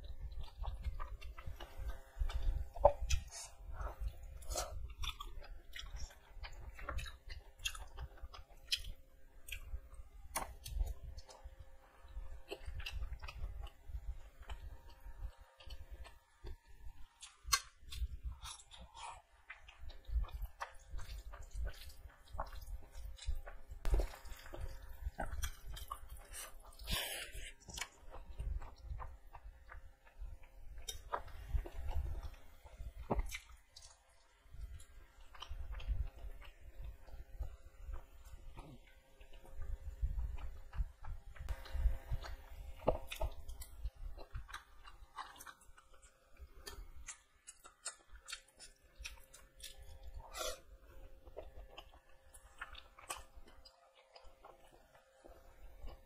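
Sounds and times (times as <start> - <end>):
person chewing with wet mouth sounds: 0.0 - 56.0.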